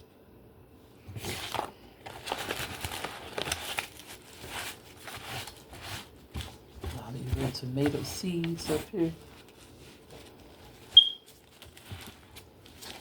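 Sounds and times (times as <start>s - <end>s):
crinkling and rustling: 1.0s - 13.0s.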